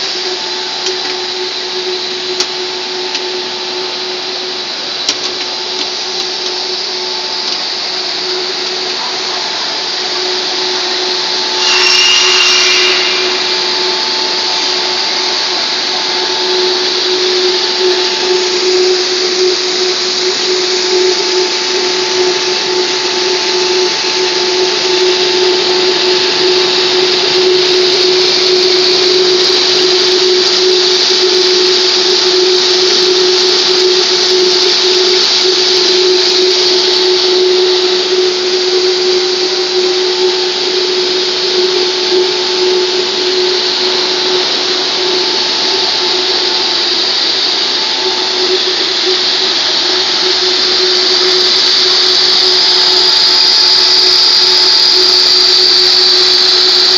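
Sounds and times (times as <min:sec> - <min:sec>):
machine hum: 0:00.0 - 0:56.9.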